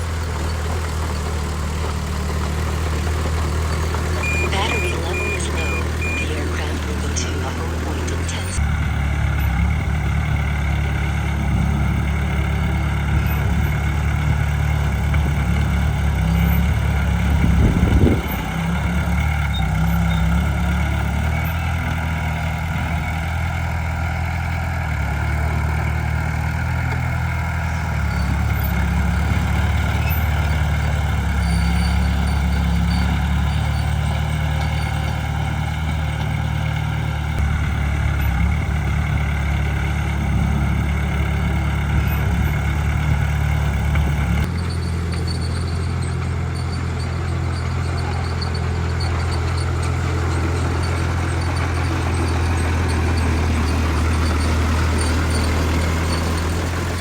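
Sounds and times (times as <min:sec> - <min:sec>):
heavy diesel engines running: 0:00.0 - 0:57.0.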